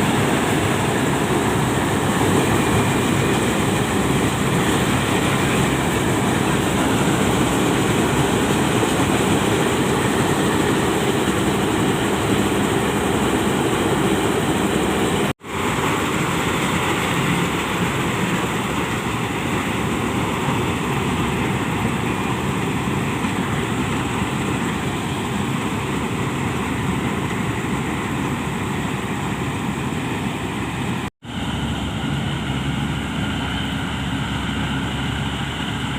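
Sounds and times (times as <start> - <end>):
heavy farm machinery engines: 0.0 - 35.9.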